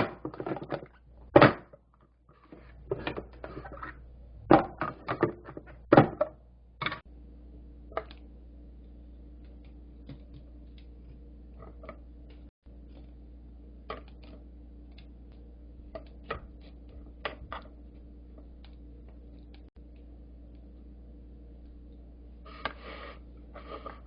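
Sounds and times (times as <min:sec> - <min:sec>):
steady low hum: 0:02.3 - 0:24.0.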